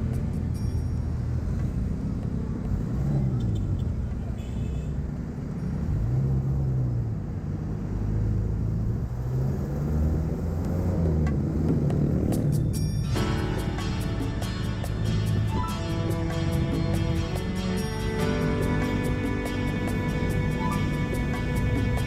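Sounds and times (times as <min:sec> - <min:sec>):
road rumble: 0:00.0 - 0:22.0.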